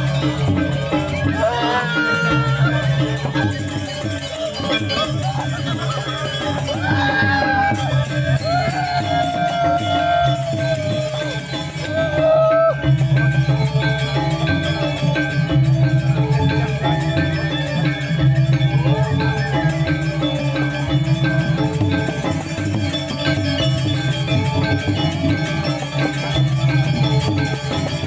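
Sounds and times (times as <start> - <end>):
gamelan ensemble playing: 0.0 - 28.0
metallophones ringing: 0.0 - 28.0.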